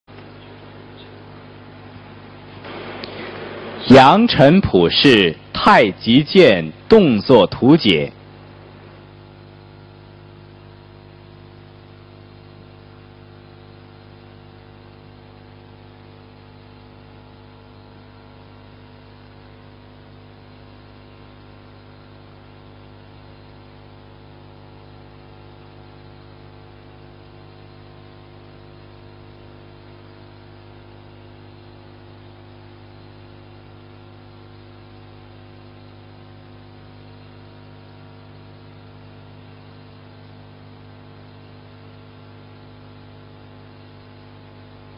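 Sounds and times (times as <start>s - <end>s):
electrical mains hum: 0.1s - 44.9s.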